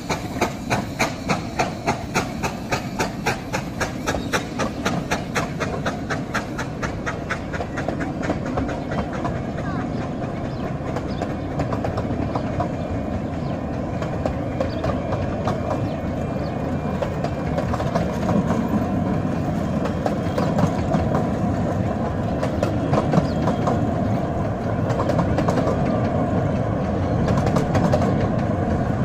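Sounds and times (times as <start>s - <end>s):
train wheels rumbling on rail: 0.0s - 29.0s
wheels clicking over rail joints: 0.0s - 29.0s.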